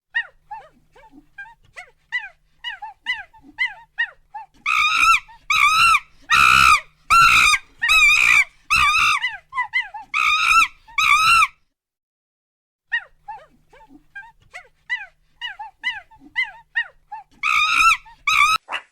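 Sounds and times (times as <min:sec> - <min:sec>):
dog crying loudly: 0:00.2 - 0:11.5, 0:12.9 - 0:18.8
dog whimpering: 0:00.2 - 0:11.5, 0:12.9 - 0:18.6.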